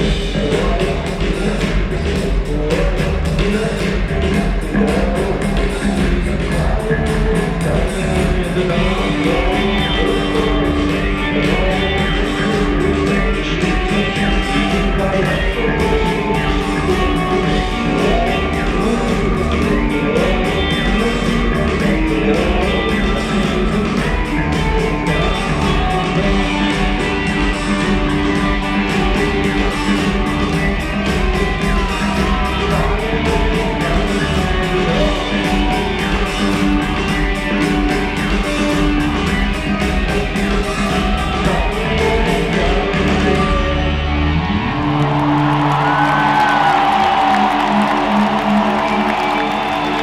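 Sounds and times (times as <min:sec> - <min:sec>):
live rock band playing: 0:00.0 - 0:50.0.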